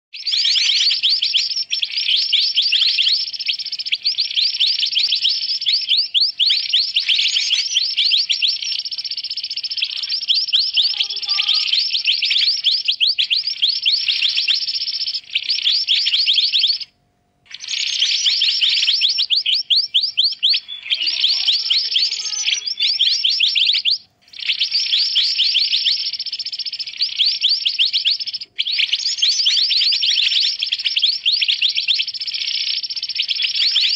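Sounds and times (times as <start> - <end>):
bird chattering trill: 0.2 - 16.9, 17.5 - 33.9.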